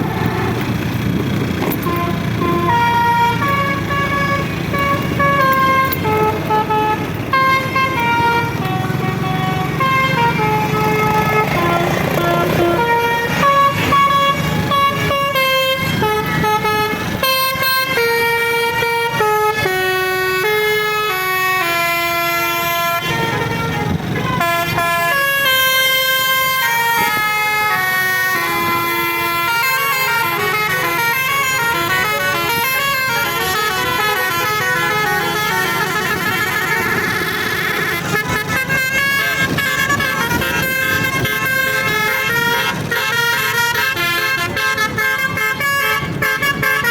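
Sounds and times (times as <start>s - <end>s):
bus engine running: 0.0s - 46.9s
musical air horn playing a tune: 1.6s - 46.9s.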